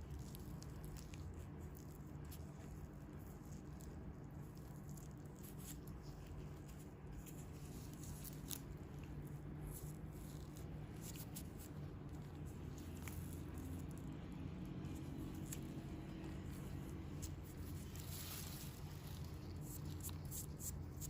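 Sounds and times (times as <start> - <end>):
low steady hum: 0.0 - 21.0
soft crackles and ticks of handling: 0.0 - 21.0.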